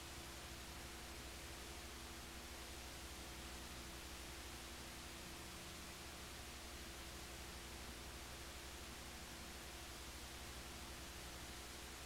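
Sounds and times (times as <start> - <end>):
low electrical hum: 0.0 - 12.0
tape hiss: 0.0 - 12.0.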